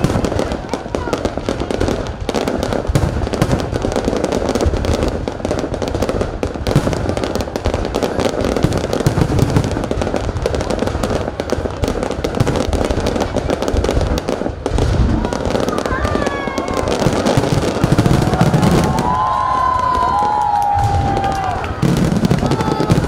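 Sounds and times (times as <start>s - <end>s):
fireworks booms: 0.0s - 23.0s
fireworks crackling: 0.0s - 23.0s.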